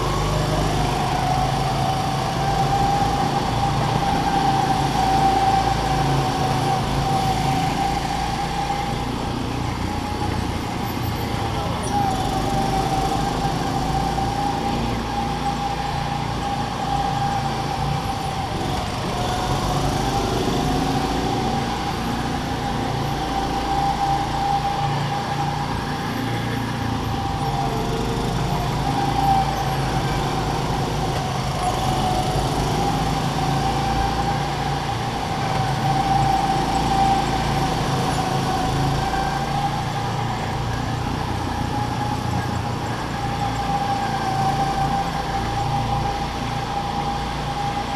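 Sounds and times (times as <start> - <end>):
go-kart engines running: 0.0 - 47.9.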